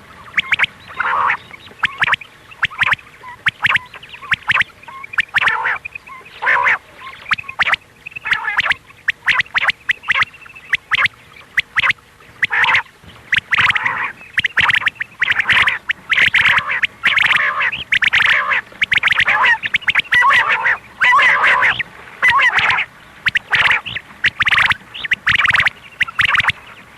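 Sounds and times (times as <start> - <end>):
quail calls: 0.0 - 26.9.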